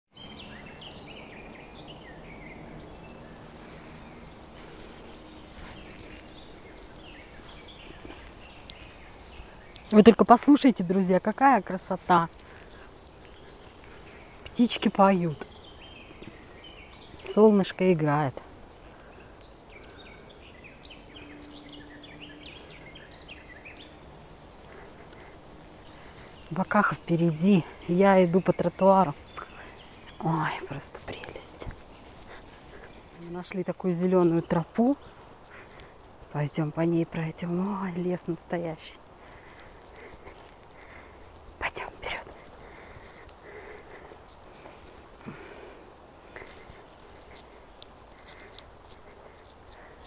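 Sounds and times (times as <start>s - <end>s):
birds chirping: 0.1s - 50.0s
songbird singing: 0.1s - 50.0s
faint background hiss: 0.2s - 50.0s.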